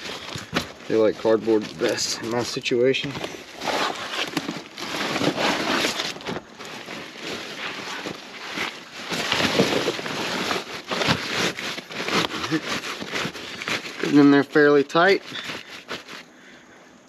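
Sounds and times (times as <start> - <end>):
wet cardboard crumpling: 0.0 - 16.2.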